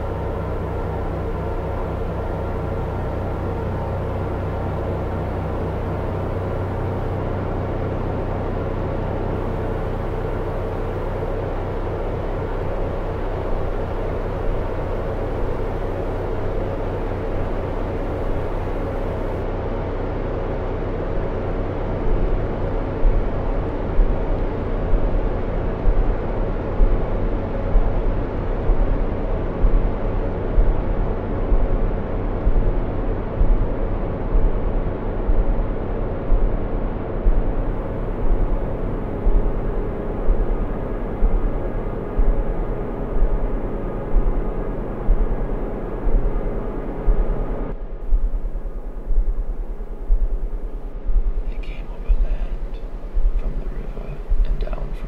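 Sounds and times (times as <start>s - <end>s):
deep throbbing pulses: 0.0s - 19.4s, 20.5s - 55.0s
low droning rumble: 0.0s - 55.0s.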